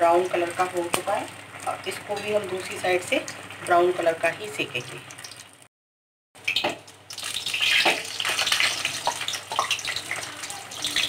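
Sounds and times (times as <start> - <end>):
hot oil sizzling and crackling: 0.0 - 5.7, 6.4 - 11.0.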